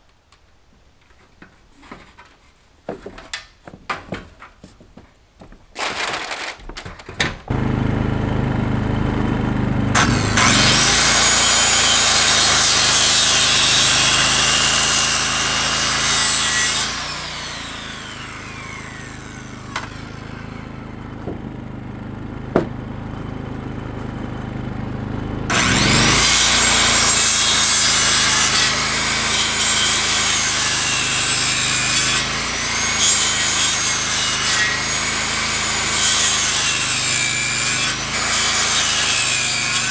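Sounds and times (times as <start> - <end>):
power saw cutting wood: 5.8 - 6.6, 7.5 - 39.9.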